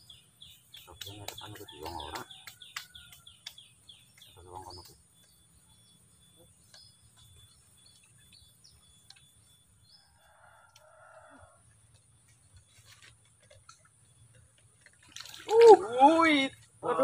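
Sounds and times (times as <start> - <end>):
faint bird chirps: 0.0 - 14.7.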